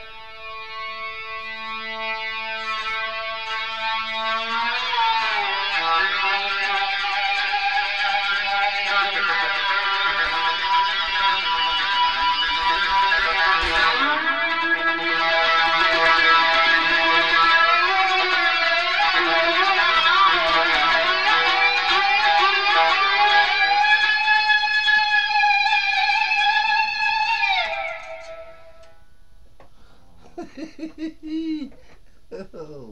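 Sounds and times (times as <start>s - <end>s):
slide guitar sustained notes: 0.0s - 28.9s.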